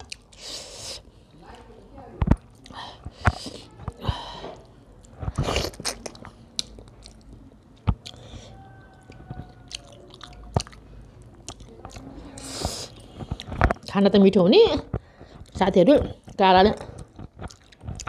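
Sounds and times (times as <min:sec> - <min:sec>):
person chewing food: 0:00.0 - 0:01.3, 0:02.2 - 0:13.9, 0:14.9 - 0:18.0.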